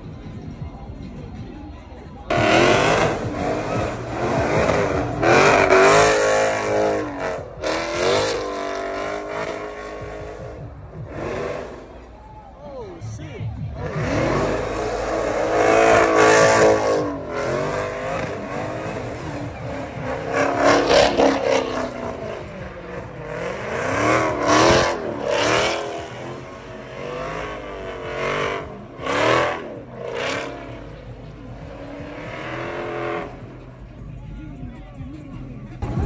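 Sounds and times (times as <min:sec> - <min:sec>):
car engine revving hard: 0:02.3 - 0:12.1, 0:13.8 - 0:33.9.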